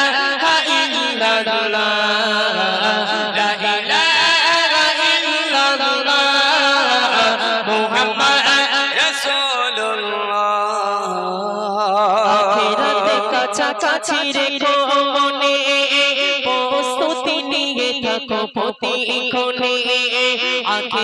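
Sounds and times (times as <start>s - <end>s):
men singing devotional song: 0.0s - 21.0s.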